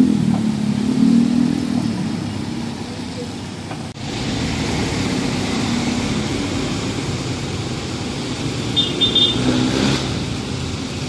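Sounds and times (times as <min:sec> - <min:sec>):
vehicles passing on wet road: 0:00.0 - 0:11.0.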